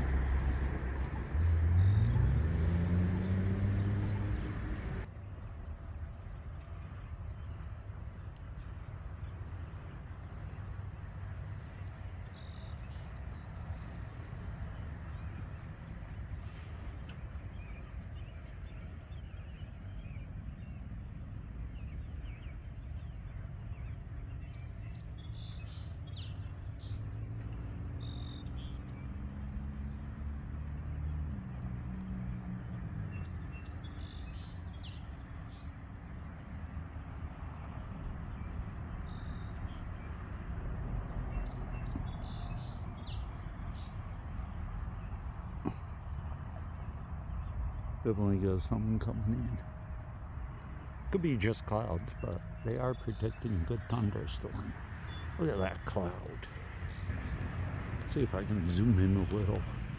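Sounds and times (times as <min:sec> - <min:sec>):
low engine-like hum: 0:00.0 - 0:59.9
low street rumble: 0:00.0 - 0:59.9
songbirds chirping: 0:00.0 - 0:59.9.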